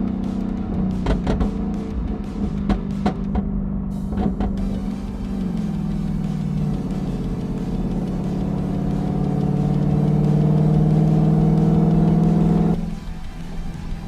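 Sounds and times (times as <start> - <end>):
car engine and exhaust running: 0.0 - 14.0.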